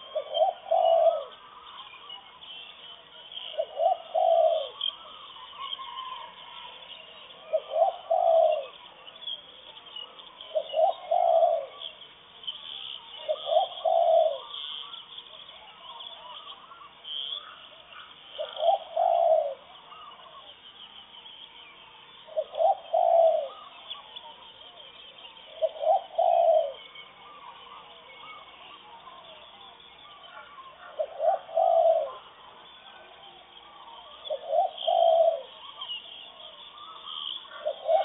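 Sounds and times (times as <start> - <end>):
dove cooing: 0.0 - 2.2, 3.3 - 9.2, 10.1 - 12.0, 12.8 - 20.5, 22.3 - 38.0
small birds chirping: 0.0 - 38.0.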